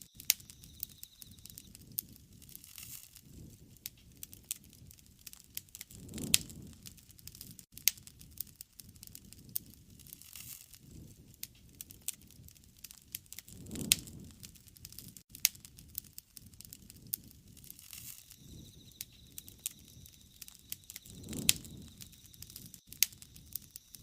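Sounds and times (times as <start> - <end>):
wood fire crackling and popping: 0.0 - 24.0
low rush of flame: 0.2 - 24.0.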